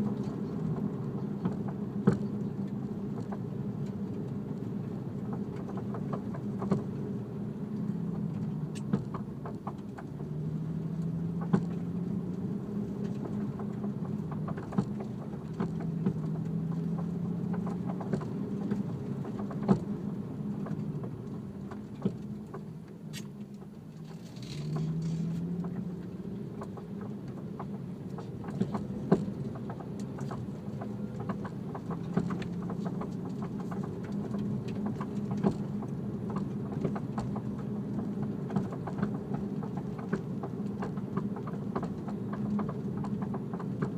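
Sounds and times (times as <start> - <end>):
car engine drone: 0.0 - 43.9
road noise: 0.0 - 43.9
suspension clunking: 0.0 - 43.9.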